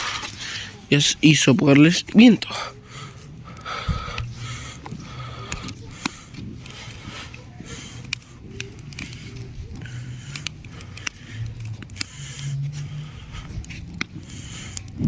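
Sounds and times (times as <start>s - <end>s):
air blown onto fire: 0.0s - 15.0s
campfire crackling and popping: 0.0s - 15.0s.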